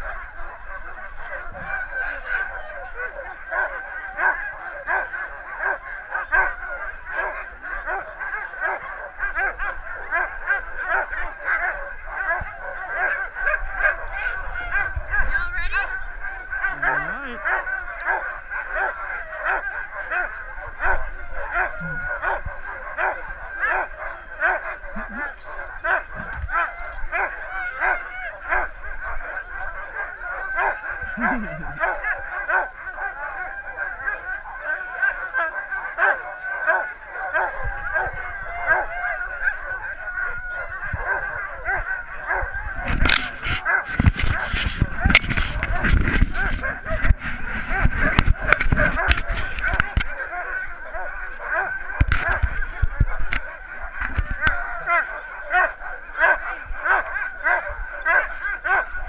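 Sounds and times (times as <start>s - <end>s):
sled dogs barking and yipping: 0.0s - 59.0s.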